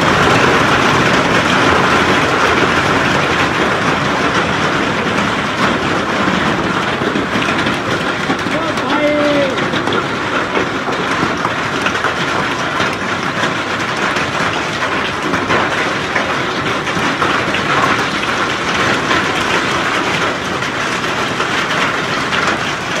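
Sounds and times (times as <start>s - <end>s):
hail and heavy rain: 0.0s - 23.0s.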